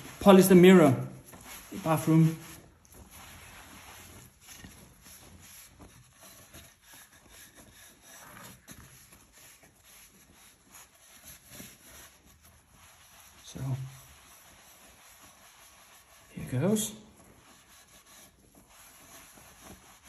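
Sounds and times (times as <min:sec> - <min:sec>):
cloth rubbing on wooden board: 0:00.0 - 0:20.0.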